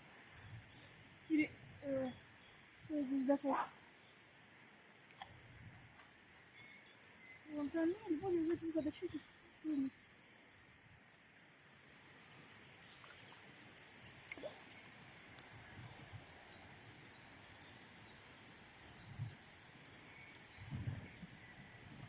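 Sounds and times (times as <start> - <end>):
small birds chirping: 0.3 - 22.0.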